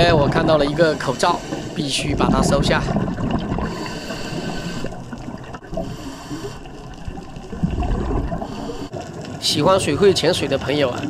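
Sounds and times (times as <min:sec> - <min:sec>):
exhaled bubbles: 0:00.0 - 0:10.0
underwater regulator gurgle: 0:00.0 - 0:11.0.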